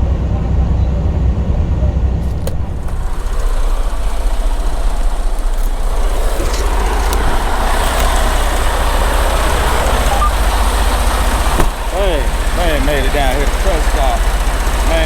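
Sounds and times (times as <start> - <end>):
road and wind noise hiss: 0.0 - 15.0
truck engine rumble: 0.0 - 15.0.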